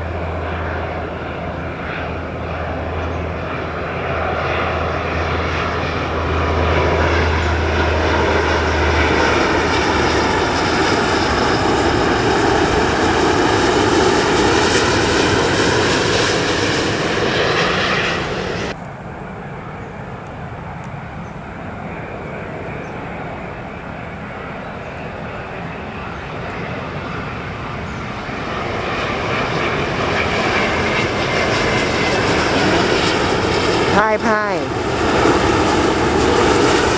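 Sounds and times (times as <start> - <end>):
jet engines of passing airliner: 0.0 - 36.9.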